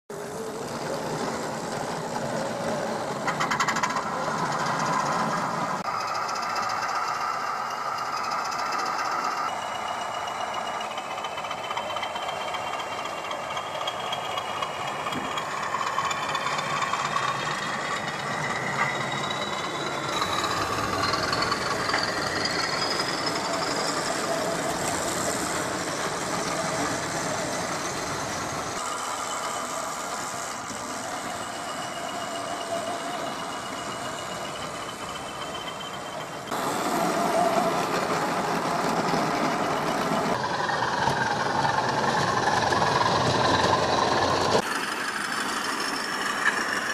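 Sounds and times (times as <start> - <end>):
model train running on track: 0.1 - 46.9.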